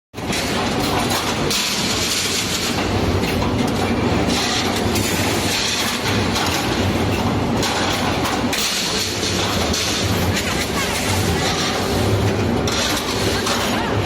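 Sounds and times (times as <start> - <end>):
bending machine rattling: 0.2 - 14.0.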